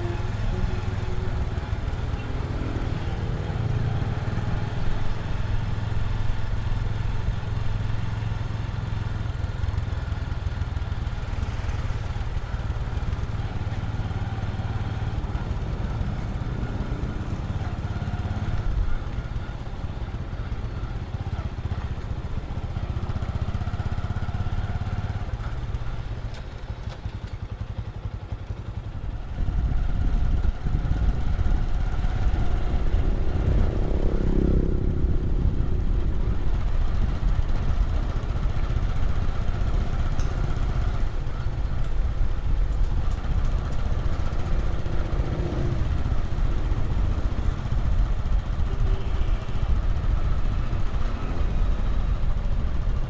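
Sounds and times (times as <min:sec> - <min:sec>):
road and wind rumble: 0:00.0 - 0:53.0
vehicle engine hum: 0:00.0 - 0:53.0.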